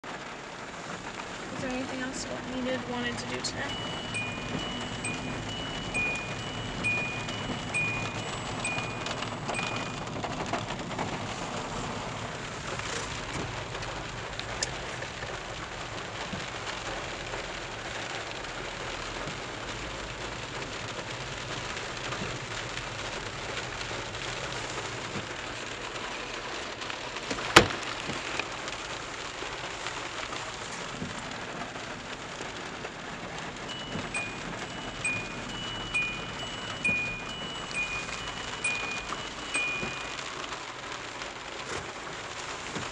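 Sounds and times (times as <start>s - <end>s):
heavy rain on car roof: 0.0s - 42.9s.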